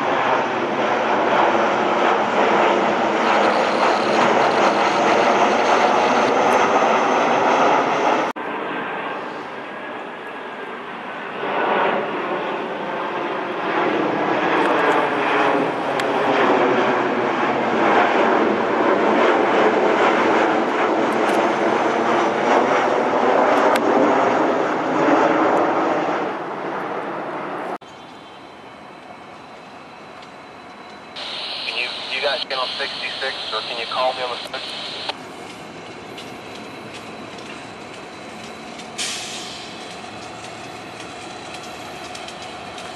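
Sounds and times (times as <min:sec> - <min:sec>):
jet airliner passing overhead: 0:00.0 - 0:42.9
outdoor background noise: 0:00.0 - 0:42.9.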